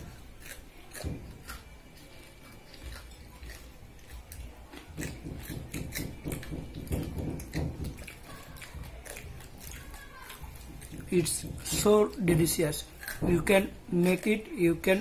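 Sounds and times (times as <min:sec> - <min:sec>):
chewing crunchy fritter: 0:00.0 - 0:15.0.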